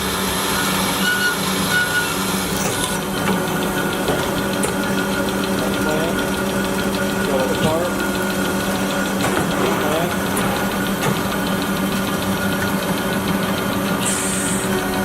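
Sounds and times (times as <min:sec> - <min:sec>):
band saw humming: 0:00.0 - 0:15.0.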